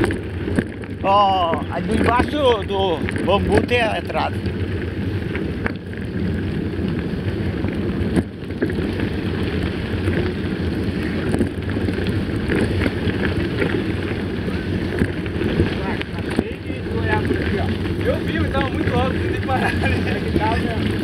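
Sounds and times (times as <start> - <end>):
bike tyres rolling on gravel: 0.0 - 21.0
wind noise on microphone: 0.0 - 21.0.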